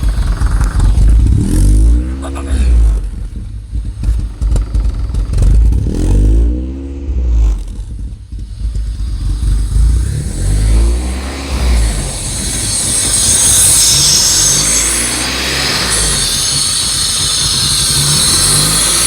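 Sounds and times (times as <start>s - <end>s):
loud car engine revving: 0.0s - 19.0s.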